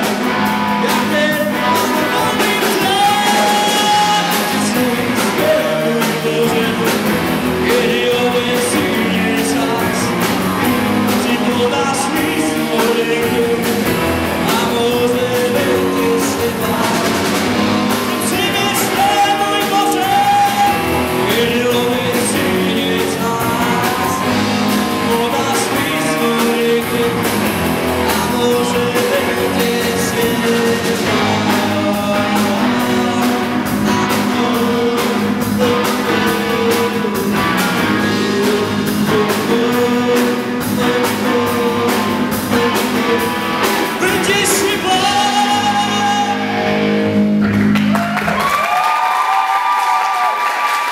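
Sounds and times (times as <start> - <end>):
rock song with singer and band: 0.0 - 50.9.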